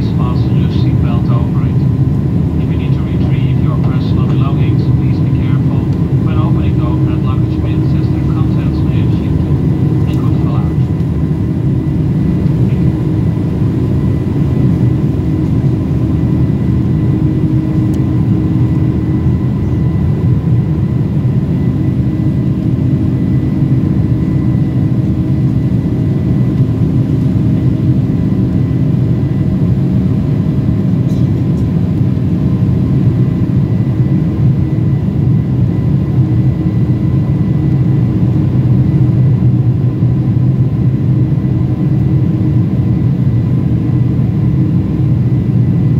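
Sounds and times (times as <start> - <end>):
high engine whine: 0.0 - 45.9
jet engine low rumble: 0.0 - 45.9.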